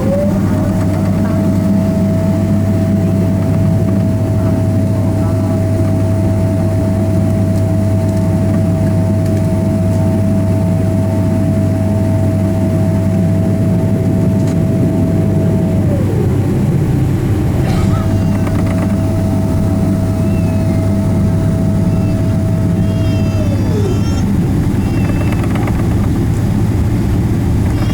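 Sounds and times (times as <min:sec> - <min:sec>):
airplane cabin rumble: 0:00.0 - 0:27.9
jet engine whine: 0:00.0 - 0:27.9.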